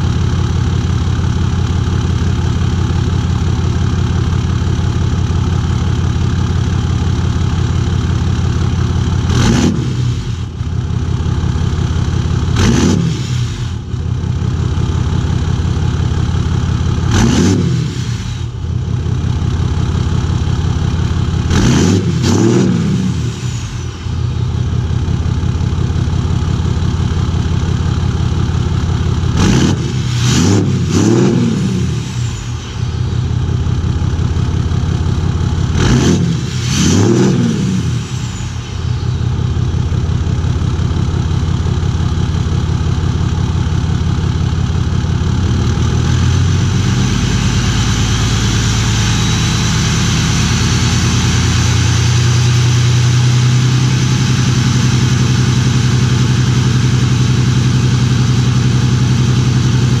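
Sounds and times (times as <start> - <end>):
diesel engine revving: 0.0 - 60.0.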